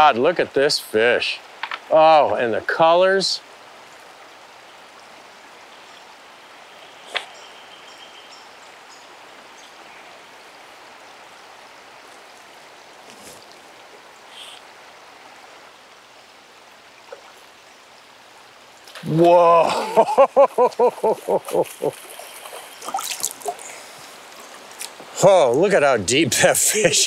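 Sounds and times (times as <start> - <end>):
river current rushing: 0.0 - 27.0.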